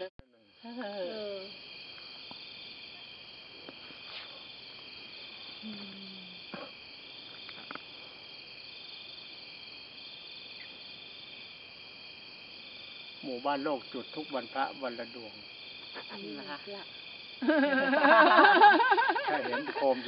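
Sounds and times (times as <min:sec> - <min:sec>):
crickets chorus: 0:00.3 - 0:20.0.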